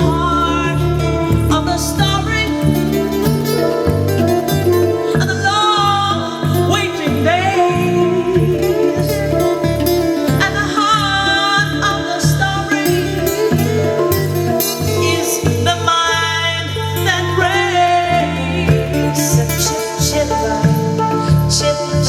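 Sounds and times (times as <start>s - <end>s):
bass guitar low notes: 0.0s - 22.0s
live band music: 0.0s - 22.0s.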